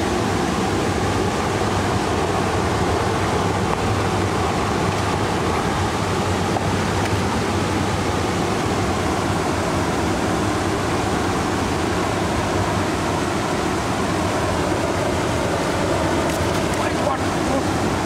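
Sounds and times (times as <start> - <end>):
water rushing over a weir: 0.0 - 18.0.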